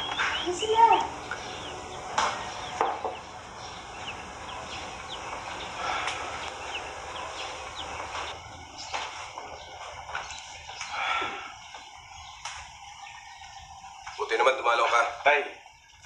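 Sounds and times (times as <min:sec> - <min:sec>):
birds chirping: 0:00.0 - 0:16.0
steady hiss: 0:00.0 - 0:16.0.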